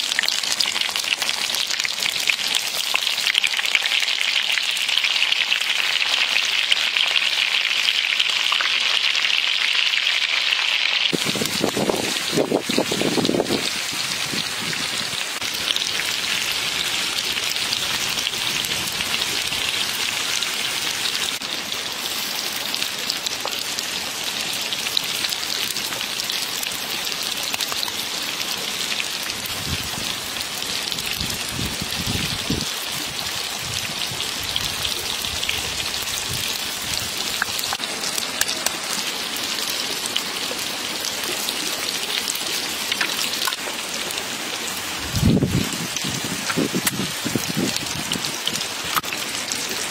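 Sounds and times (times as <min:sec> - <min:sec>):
oil sizzling in pan: 0:00.0 - 0:49.9.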